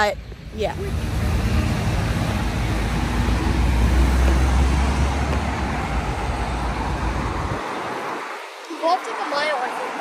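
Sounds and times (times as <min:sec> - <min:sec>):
road traffic noise: 0:00.0 - 0:10.0
vehicle passing rumble: 0:00.0 - 0:10.0.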